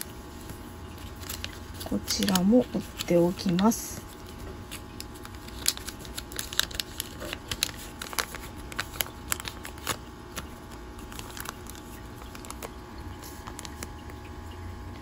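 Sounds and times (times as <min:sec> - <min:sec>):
paper crackling and rustling: 0:00.0 - 0:14.2.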